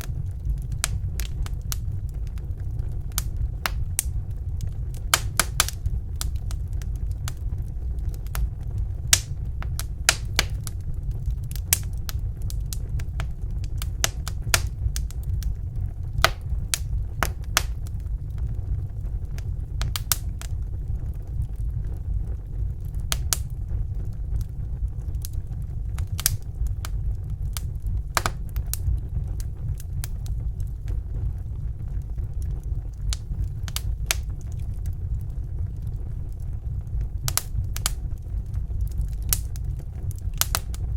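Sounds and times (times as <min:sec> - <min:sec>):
low rumble: 0:00.0 - 0:40.9
wood fire crackling: 0:00.0 - 0:40.9.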